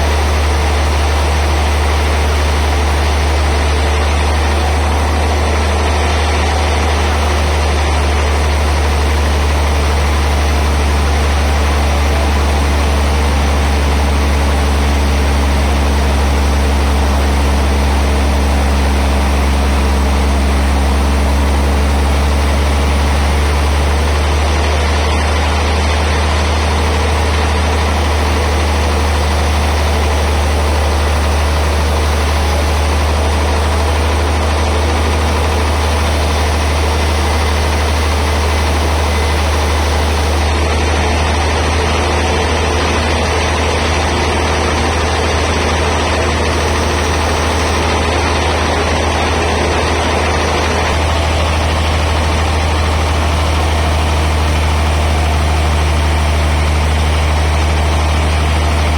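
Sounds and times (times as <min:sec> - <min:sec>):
band saw humming: 0:00.0 - 0:58.9.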